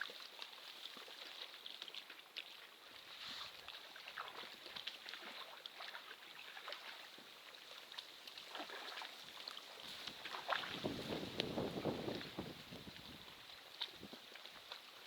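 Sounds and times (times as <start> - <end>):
small waves lapping: 0.0 - 15.0.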